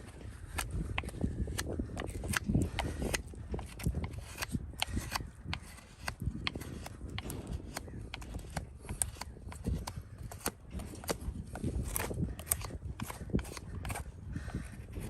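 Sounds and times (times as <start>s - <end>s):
tools clicking on a horse's hoof: 0.0s - 15.0s.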